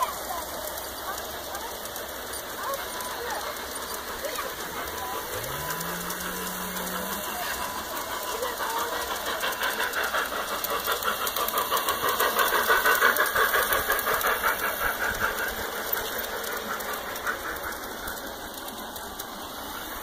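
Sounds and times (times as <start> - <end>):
model steam train clattering: 0.0 - 20.0.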